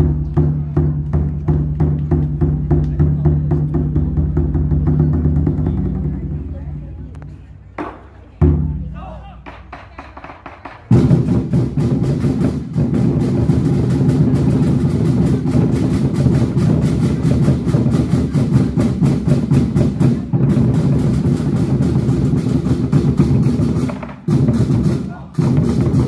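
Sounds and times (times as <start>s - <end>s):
large drums rolling: 0.0s - 26.0s.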